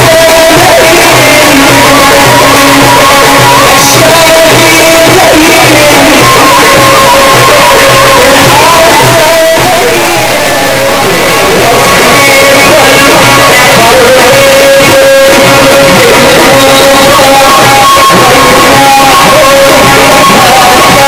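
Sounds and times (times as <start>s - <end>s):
person singing: 0.0s - 21.0s
religious chanting with ensemble: 0.0s - 21.0s.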